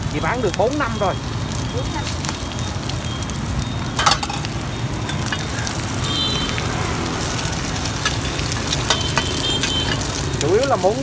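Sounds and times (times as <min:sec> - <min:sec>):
cake sizzling in oil: 0:00.0 - 0:11.0.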